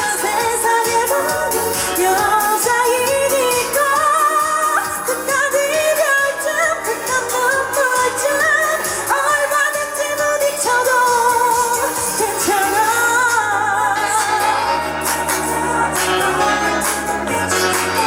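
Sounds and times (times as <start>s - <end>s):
amplified backing track: 0.0s - 18.0s
women singing pop song: 0.0s - 18.0s.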